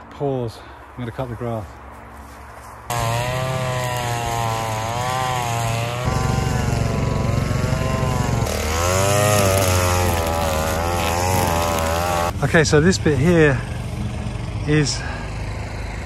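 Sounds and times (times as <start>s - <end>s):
grass cutter engine running: 2.9s - 16.0s.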